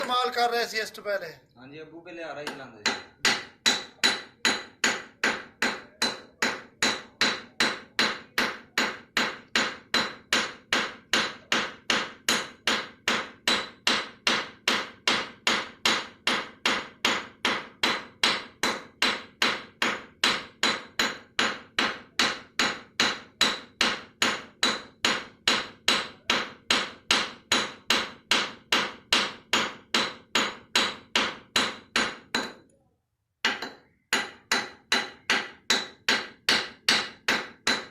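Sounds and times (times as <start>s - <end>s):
hammer strikes with metallic ring: 2.4s - 32.6s, 33.4s - 37.9s.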